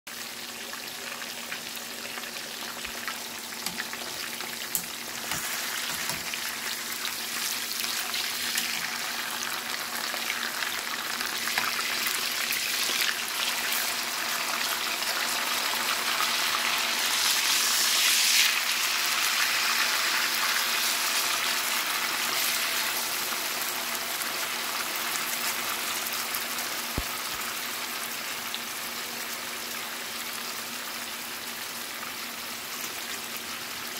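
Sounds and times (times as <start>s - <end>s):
meat sizzling in a frying pan: 0.1s - 33.9s.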